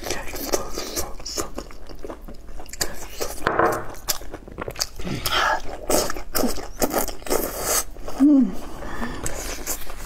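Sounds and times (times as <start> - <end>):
wet chewing: 0.0 - 8.2.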